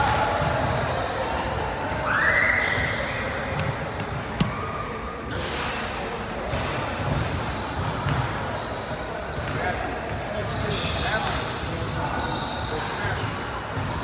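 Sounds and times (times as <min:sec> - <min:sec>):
voices echoing: 0:00.0 - 0:14.0.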